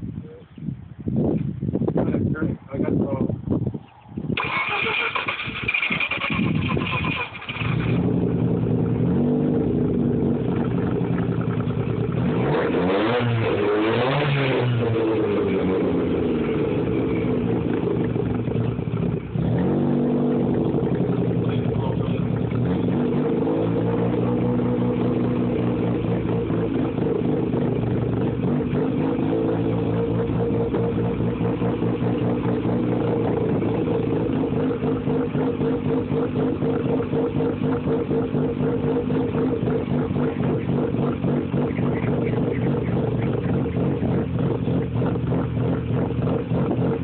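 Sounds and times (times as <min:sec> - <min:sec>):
rotary engine idling and revving: 0:04.2 - 0:47.0.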